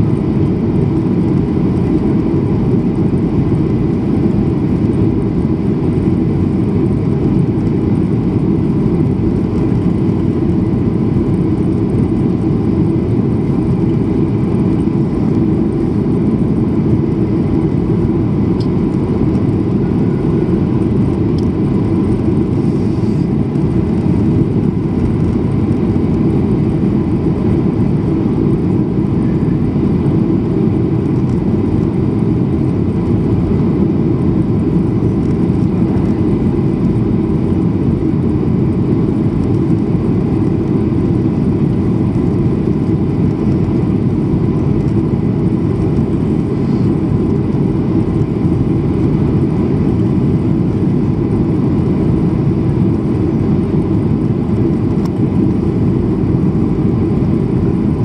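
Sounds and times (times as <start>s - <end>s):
faint steady whine: 0.0s - 58.0s
jet engines roaring: 0.0s - 58.0s.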